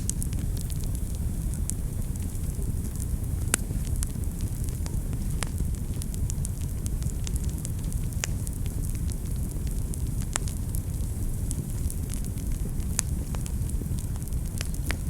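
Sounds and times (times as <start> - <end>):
sharp fire pops: 0.0 - 15.0
wood fire crackling: 0.0 - 15.0.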